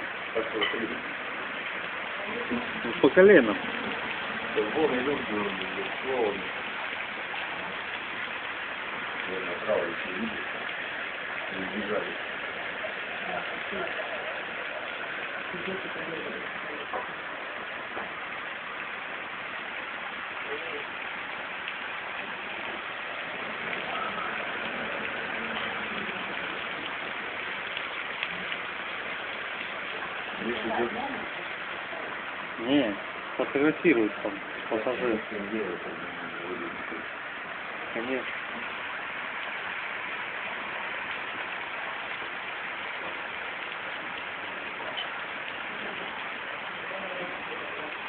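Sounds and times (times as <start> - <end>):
rainwater hissing: 0.0 - 48.0.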